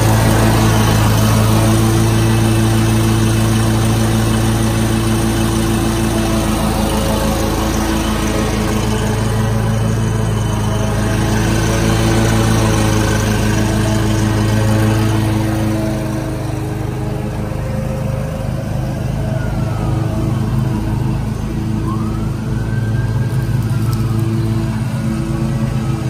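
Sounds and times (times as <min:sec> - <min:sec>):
mower engine running: 0:00.0 - 0:26.0.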